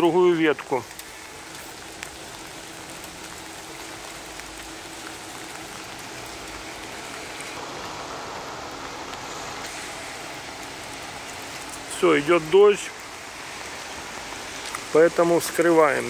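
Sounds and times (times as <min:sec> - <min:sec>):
steady rain falling: 0:00.0 - 0:16.0
traffic hiss on wet street: 0:00.0 - 0:16.0.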